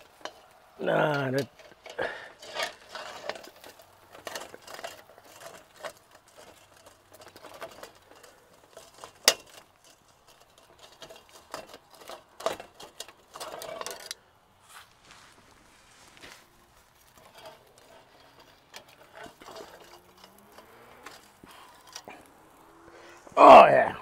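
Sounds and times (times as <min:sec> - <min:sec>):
tongs scraping grill grate: 0:00.0 - 0:24.0.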